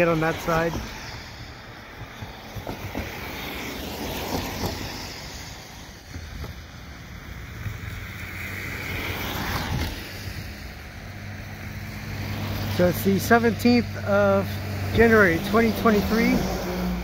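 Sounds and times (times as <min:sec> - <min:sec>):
distant vehicles rumbling: 0:00.0 - 0:17.0.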